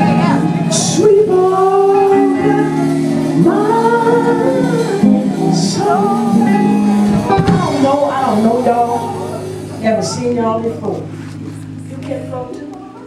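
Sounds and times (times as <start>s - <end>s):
woman singing gospel: 0.0s - 11.2s
held instrumental chords: 0.0s - 13.0s.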